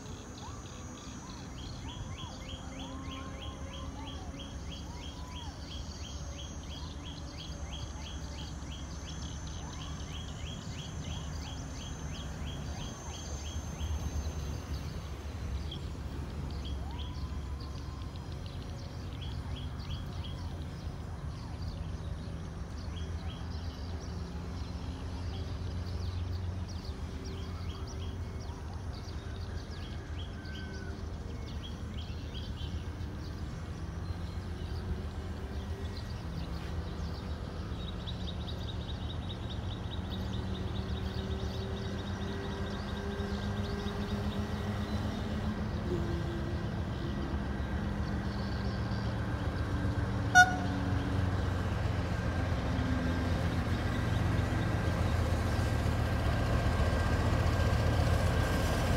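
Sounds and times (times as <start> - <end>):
distant diesel locomotive drone: 0.0 - 58.9.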